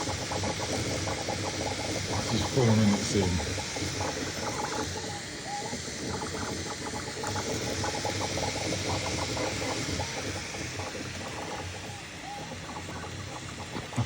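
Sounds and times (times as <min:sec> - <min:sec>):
cooling fans hissing: 0:00.0 - 0:14.0
stepper motors chirping and whining: 0:02.2 - 0:14.0.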